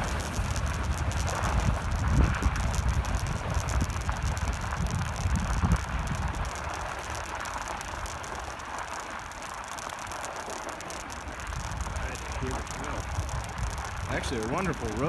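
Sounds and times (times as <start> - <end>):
wind buffeting microphone: 0.0 - 8.4, 11.3 - 15.0.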